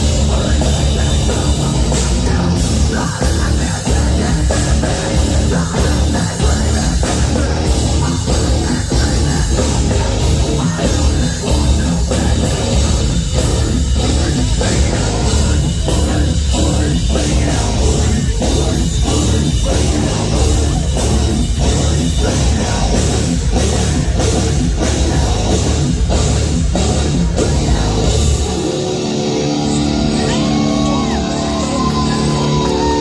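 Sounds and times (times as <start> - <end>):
heavy metal band playing: 0.0 - 33.0.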